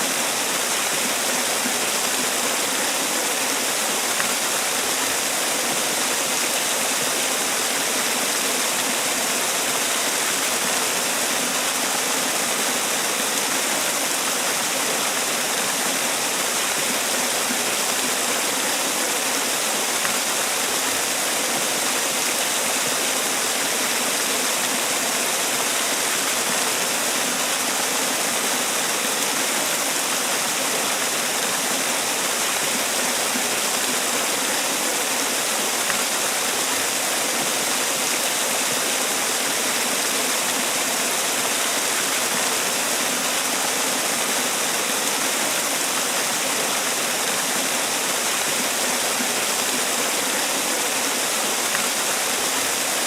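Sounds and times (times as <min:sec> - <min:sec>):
waterfall splashing: 0:00.0 - 0:53.0.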